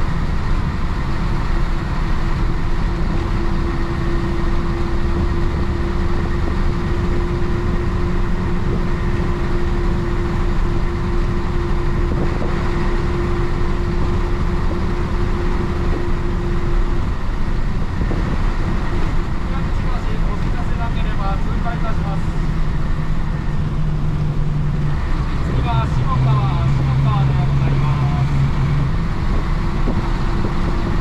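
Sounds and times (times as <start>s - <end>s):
bus diesel engine rumbling: 0.0s - 31.0s
thin steady whine: 0.0s - 31.0s.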